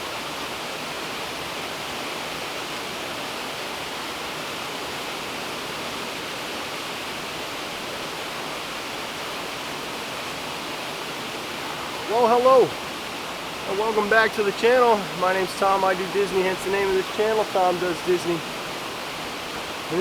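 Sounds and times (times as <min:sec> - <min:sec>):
rushing falling water: 0:00.0 - 0:20.0.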